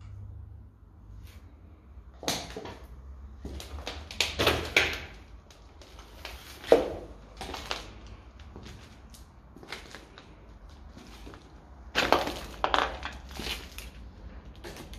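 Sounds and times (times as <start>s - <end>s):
footsteps crunching over rubble: 2.5s - 14.9s.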